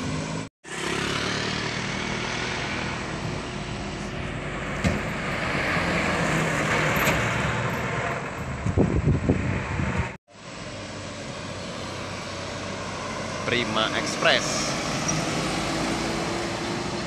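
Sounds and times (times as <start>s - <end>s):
heavy trucks passing: 0.0s - 17.0s.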